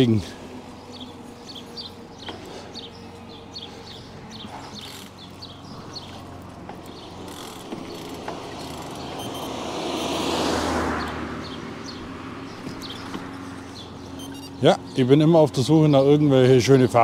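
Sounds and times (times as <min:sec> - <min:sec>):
motor vehicle passing: 0:00.0 - 0:17.0
rush of bike ride: 0:00.0 - 0:17.0.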